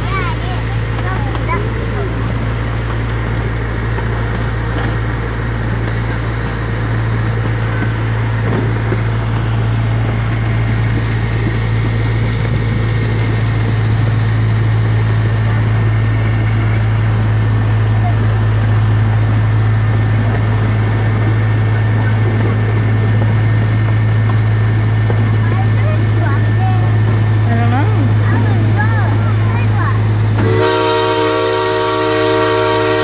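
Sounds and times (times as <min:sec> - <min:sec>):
miniature train engine running: 0:00.0 - 0:33.0
train rolling noise: 0:00.0 - 0:33.0.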